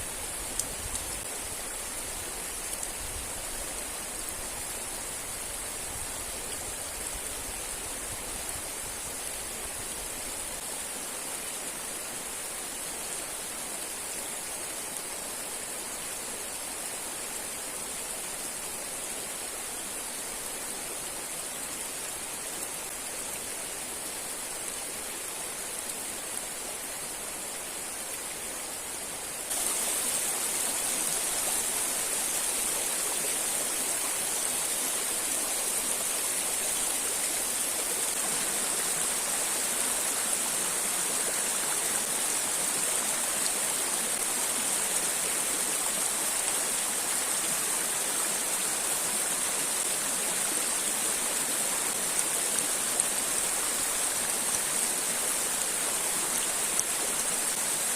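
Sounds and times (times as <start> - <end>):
river and waterfall rushing: 0.0 - 57.9.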